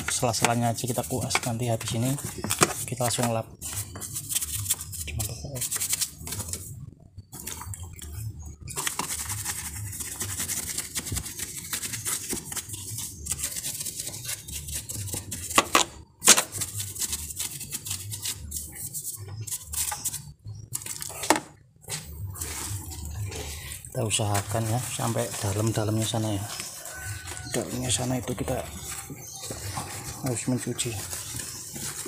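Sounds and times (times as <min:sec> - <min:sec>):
brush scrubbing: 0:00.0 - 0:06.6, 0:08.8 - 0:15.6, 0:16.5 - 0:20.2, 0:22.3 - 0:32.0.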